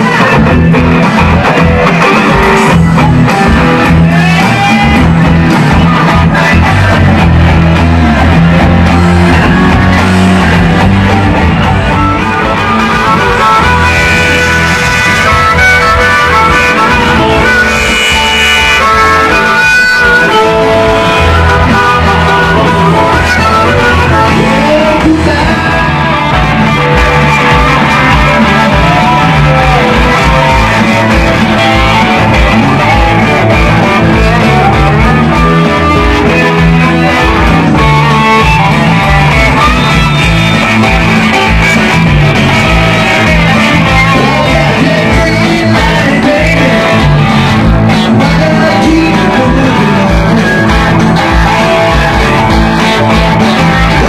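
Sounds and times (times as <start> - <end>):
bass and drums: 0.0 - 54.0
electric guitars: 0.0 - 54.0
harmonica: 0.0 - 54.0.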